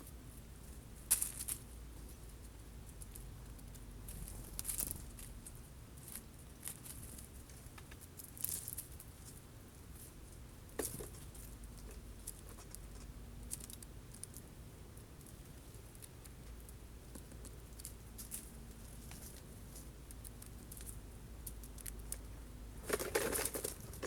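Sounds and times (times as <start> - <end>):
birds pecking seeds: 0.8 - 24.0.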